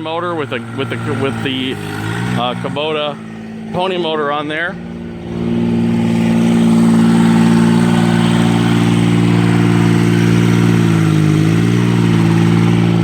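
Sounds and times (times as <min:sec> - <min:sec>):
motor running steadily: 0:00.0 - 0:13.0.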